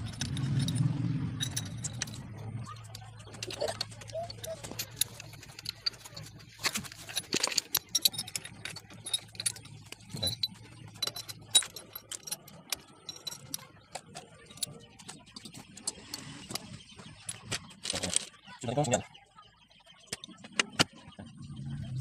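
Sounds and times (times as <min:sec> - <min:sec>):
metal gears clinking: 0:00.0 - 0:18.4.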